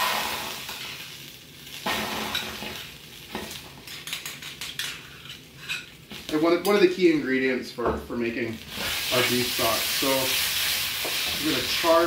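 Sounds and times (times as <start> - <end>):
vegetables sizzling in a pan: 0.0 - 7.4, 8.1 - 12.0.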